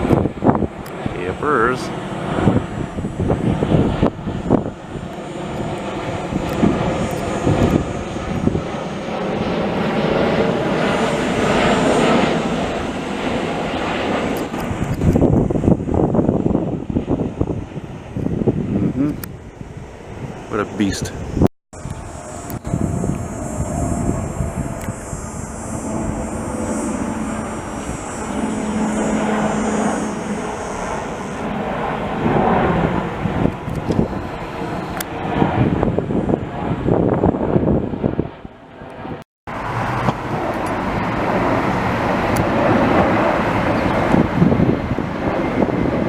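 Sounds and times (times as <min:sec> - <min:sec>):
jet airliner passing overhead: 0:00.0 - 0:46.0.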